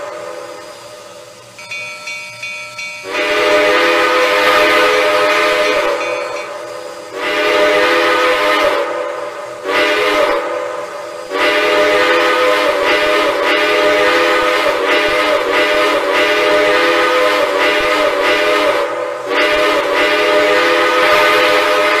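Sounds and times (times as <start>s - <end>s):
steam locomotive chime whistle: 1.5s - 8.9s, 9.6s - 10.5s, 11.3s - 22.0s.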